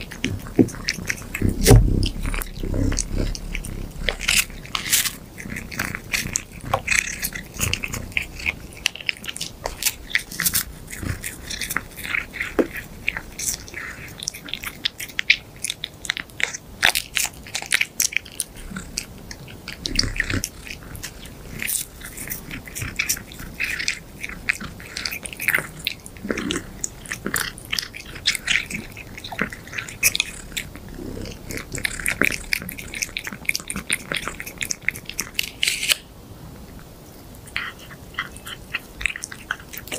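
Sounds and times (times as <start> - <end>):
cat crunching a treat: 0.0 - 36.1, 37.4 - 39.9.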